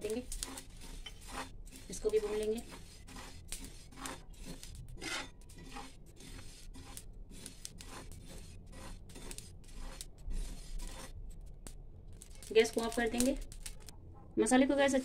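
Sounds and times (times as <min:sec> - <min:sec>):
metal spatula scraping seeds in pan: 0:00.0 - 0:13.9.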